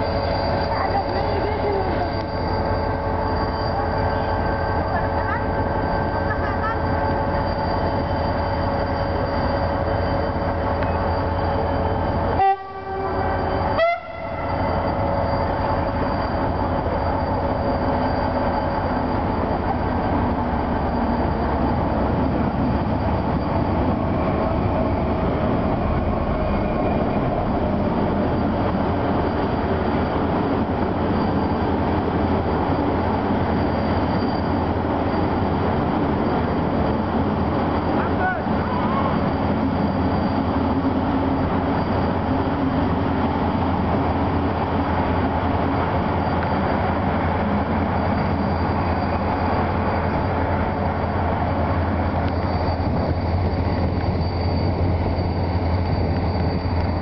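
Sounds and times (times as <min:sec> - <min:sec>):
diesel train engine hum: 0:00.0 - 0:57.0
rumble of train coaches: 0:00.0 - 0:57.0.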